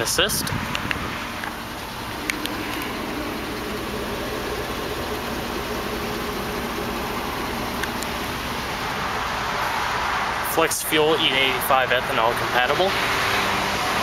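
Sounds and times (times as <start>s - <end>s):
engine idling from exhaust: 0.0s - 12.9s.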